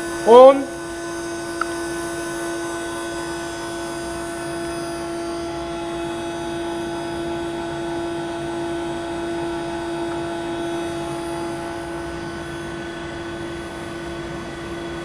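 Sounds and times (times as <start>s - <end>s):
machine whine: 0.0s - 15.0s
mechanical hum: 0.0s - 15.0s.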